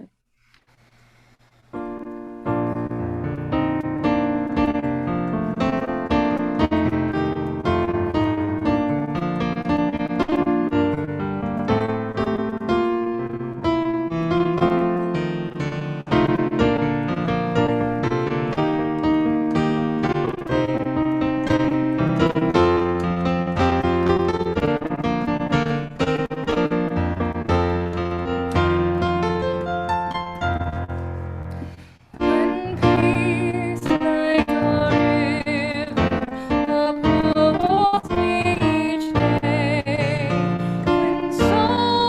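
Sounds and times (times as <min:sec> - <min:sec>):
piano music: 0:01.8 - 0:42.0.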